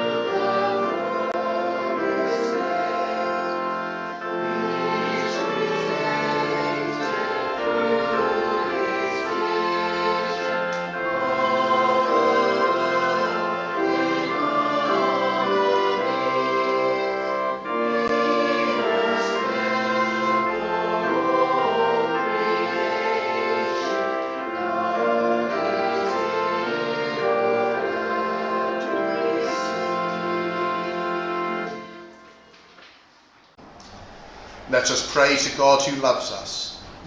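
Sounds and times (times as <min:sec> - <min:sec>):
voices singing a hymn: 0:00.0 - 0:32.8, 0:33.6 - 0:37.0
sustained instrumental accompaniment: 0:00.0 - 0:32.9.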